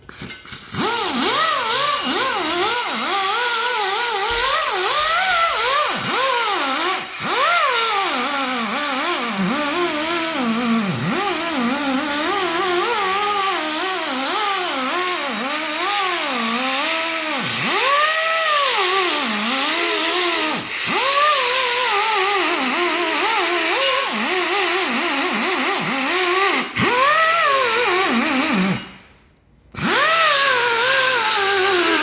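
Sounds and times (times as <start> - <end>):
air sander whine on metal: 0.2 - 26.8.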